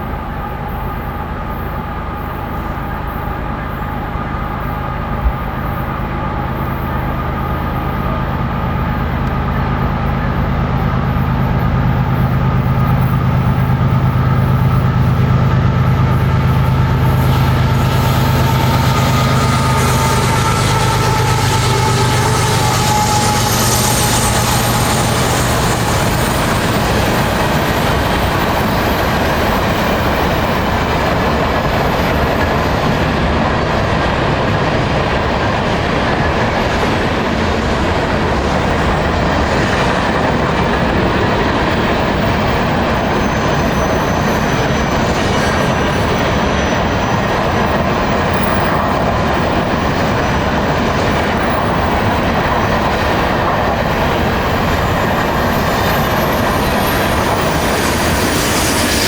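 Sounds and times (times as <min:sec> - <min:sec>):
diesel locomotive drone: 0:00.0 - 0:59.0
train wheels rattling on rails: 0:00.0 - 0:59.0.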